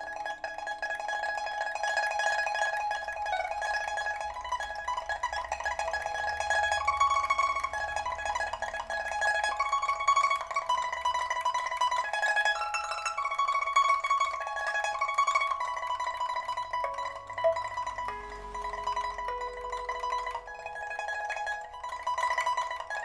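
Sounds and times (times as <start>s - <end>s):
pipa plucked melody: 0.0s - 23.0s.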